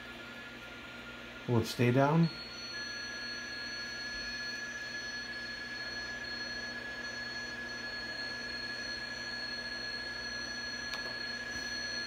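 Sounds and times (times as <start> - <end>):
steady digital signal tone: 1.4 - 12.0.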